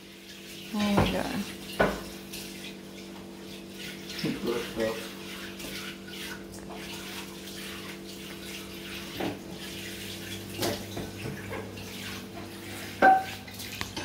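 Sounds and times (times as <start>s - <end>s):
tap running into a sink: 0.8s - 3.3s, 4.1s - 14.0s.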